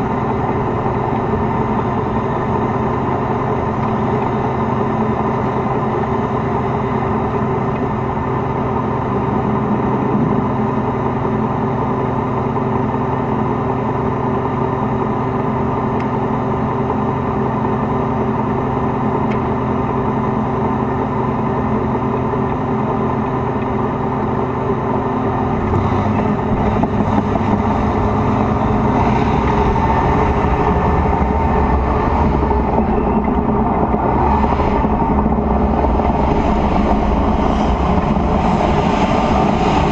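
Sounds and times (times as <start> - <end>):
tank diesel engine running: 0.0 - 39.9.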